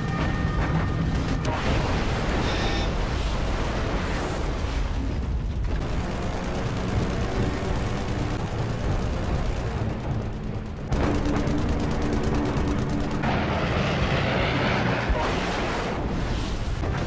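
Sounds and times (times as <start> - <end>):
anti-aircraft gunfire and explosions: 0.0 - 17.0.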